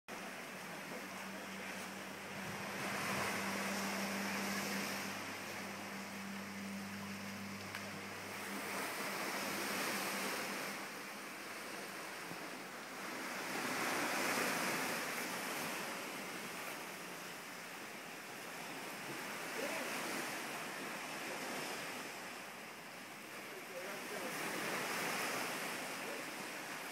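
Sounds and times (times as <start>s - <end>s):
low steady hum: 0.1s - 24.5s
ocean surf washing: 0.1s - 26.9s.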